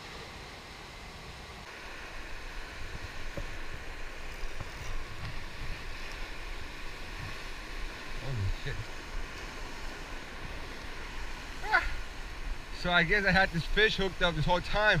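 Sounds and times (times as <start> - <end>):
ocean surf on rocks: 0.0 - 15.0.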